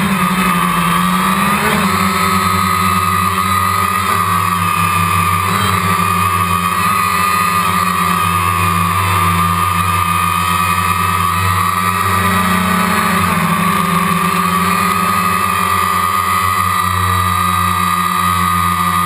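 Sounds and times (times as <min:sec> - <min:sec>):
drone propellers buzzing: 0:00.0 - 0:19.0.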